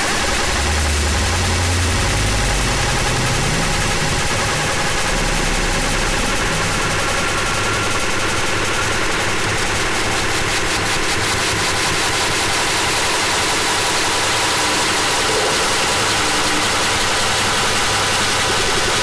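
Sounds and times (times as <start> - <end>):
harsh noise music static: 0.0 - 19.0
steady low hum: 0.0 - 19.0.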